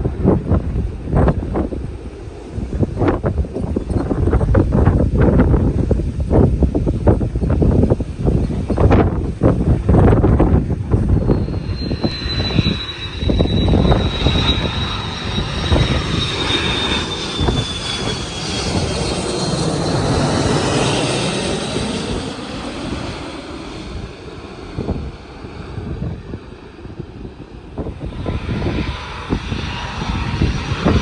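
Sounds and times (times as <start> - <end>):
airliner passing overhead: 0.0 - 31.0.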